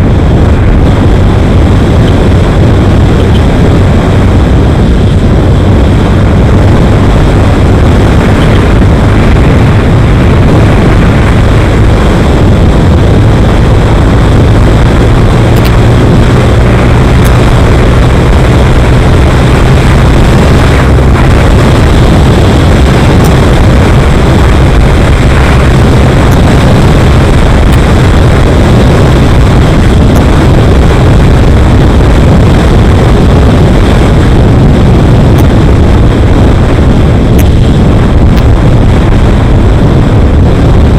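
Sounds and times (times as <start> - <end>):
constant low drone: 0.0 - 40.9
wind rush on microphone: 0.0 - 40.9.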